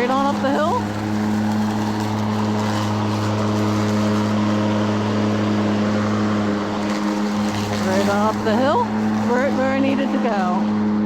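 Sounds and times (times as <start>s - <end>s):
robotic lawnmower humming: 0.0s - 11.0s.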